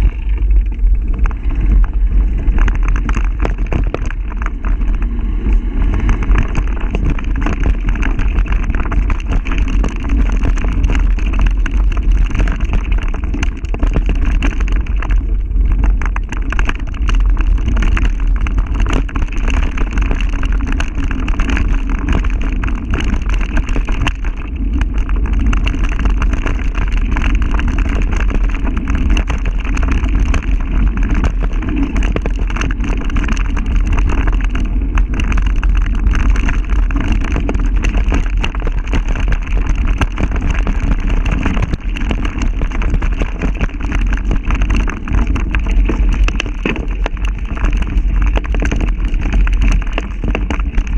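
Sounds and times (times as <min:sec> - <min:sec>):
bike rattling over bumps: 0:00.0 - 0:50.9
wind buffeting microphone: 0:00.0 - 0:50.9.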